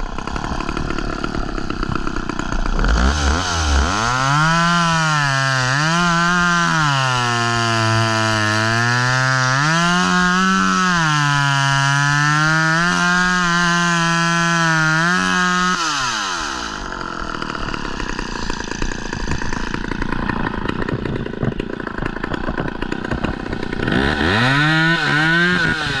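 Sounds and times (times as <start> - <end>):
chainsaw running at high revs: 0.0 - 26.0.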